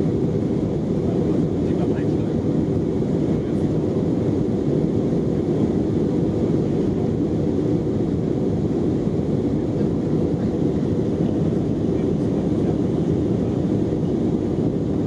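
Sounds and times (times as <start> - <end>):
jet cabin engine roar: 0.0 - 15.0.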